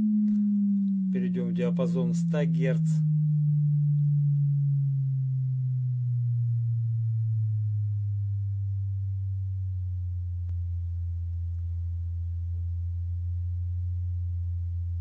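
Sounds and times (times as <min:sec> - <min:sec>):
low sine-wave test tone: 0:00.0 - 0:15.0.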